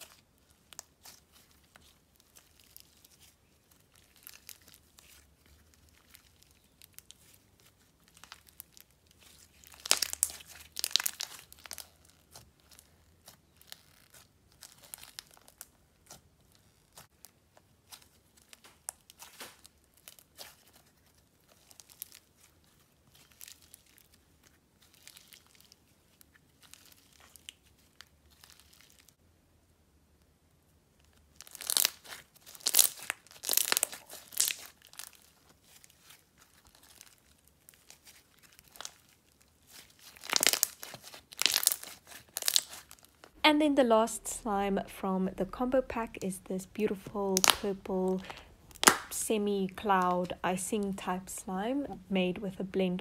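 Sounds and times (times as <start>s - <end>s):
slime crackling and popping: 0.0s - 29.2s, 31.0s - 52.1s.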